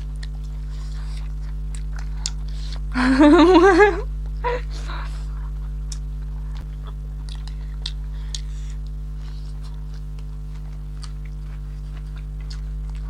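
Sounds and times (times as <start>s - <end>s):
electrical hum: 0.0s - 13.0s
people chewing food: 0.0s - 13.0s.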